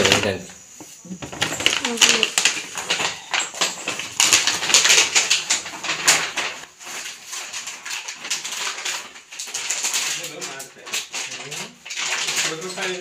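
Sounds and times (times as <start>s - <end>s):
plastic bag crinkling: 1.0s - 13.0s.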